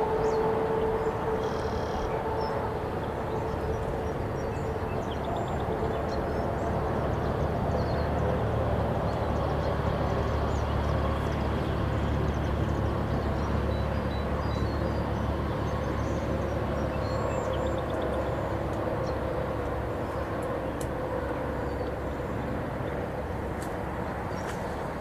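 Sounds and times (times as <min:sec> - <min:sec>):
outdoor background rumble: 0:00.0 - 0:25.0.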